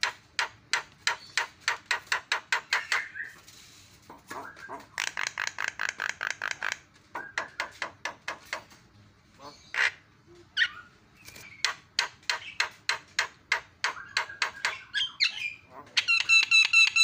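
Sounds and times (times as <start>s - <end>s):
bird harsh clicking song: 0.0s - 3.5s, 4.1s - 8.8s, 10.6s - 17.0s
loud bird calls: 0.0s - 3.5s, 4.1s - 17.0s.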